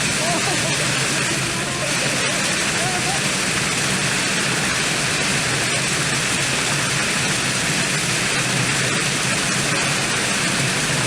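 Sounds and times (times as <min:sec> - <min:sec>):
wind driving heavy rain and hail: 0:00.0 - 0:11.0.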